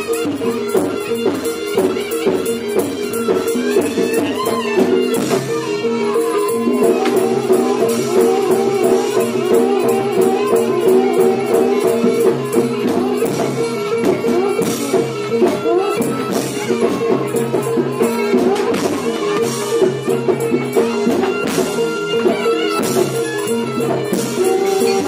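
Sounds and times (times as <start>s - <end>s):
drums: 0.0s - 25.0s.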